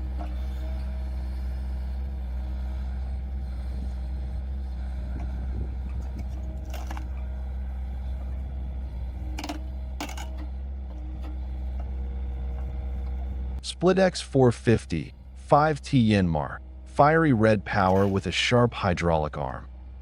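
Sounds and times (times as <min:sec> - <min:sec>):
machine engine running: 0:00.0 - 0:18.9.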